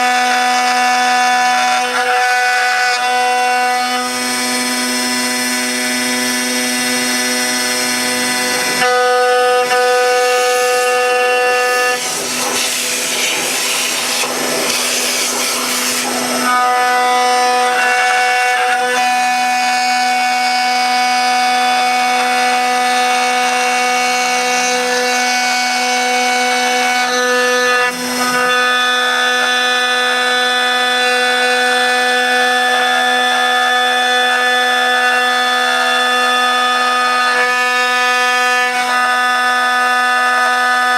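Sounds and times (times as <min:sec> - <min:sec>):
router bit cutting wood: 0:00.0 - 0:40.9
router spindle whining: 0:00.0 - 0:40.9.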